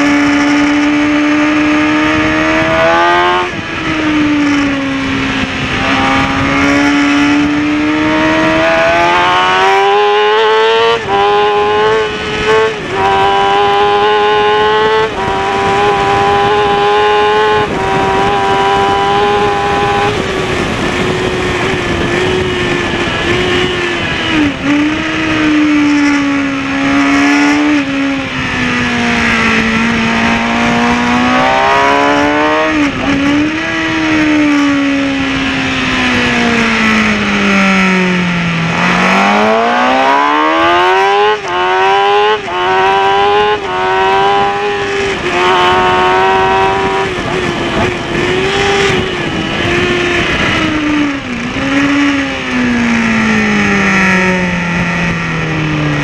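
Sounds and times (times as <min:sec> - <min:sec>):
motorcycle engine revving: 0:00.0 - 0:56.0
quick gear upshifts: 0:00.0 - 0:56.0.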